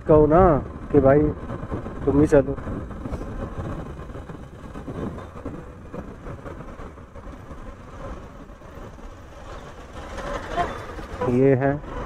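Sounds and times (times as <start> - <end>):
motorcycle engine and road noise: 0.0 - 12.0.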